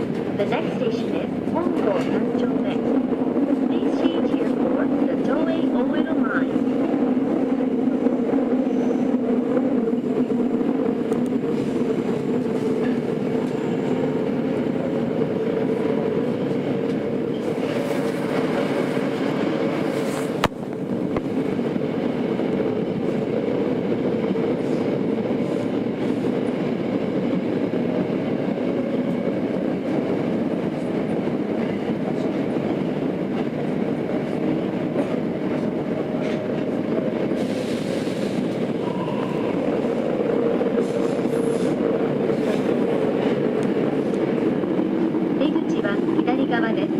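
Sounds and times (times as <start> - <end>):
subway car wheels rumbling on rail: 0.0 - 46.9.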